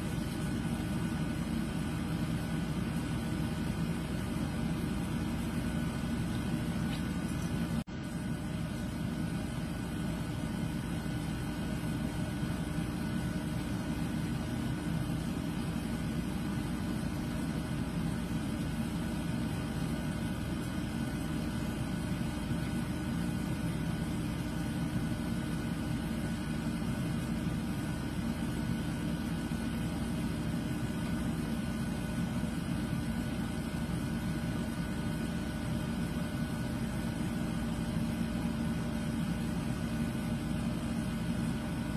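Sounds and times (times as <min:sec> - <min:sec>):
low mechanical hum: 0:00.0 - 0:41.9.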